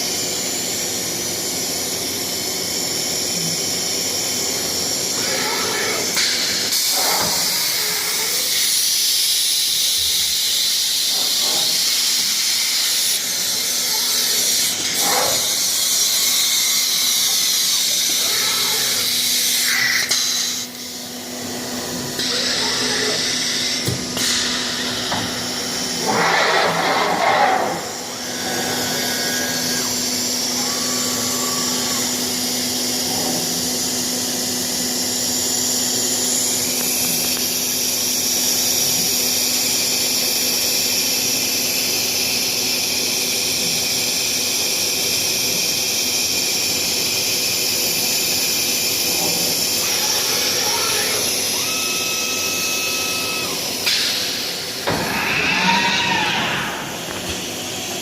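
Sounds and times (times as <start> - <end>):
cnc machine spindle whine: 0.0 - 58.0.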